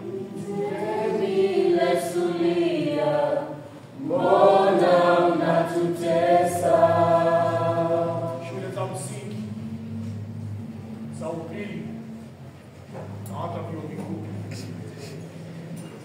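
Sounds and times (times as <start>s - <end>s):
voices singing unaccompanied: 0.0s - 15.5s.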